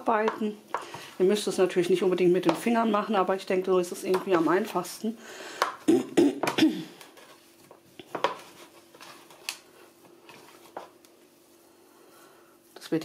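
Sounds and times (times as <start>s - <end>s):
hands kneading dough: 0.0s - 5.0s, 7.0s - 13.0s.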